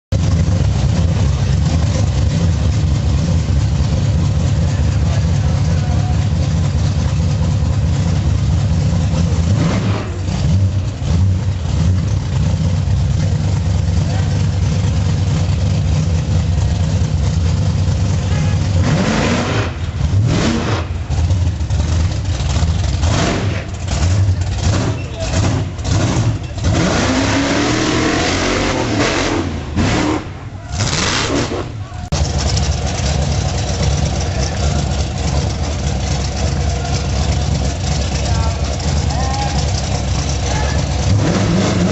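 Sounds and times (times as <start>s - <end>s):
monster truck engine revving: 0.1s - 41.9s.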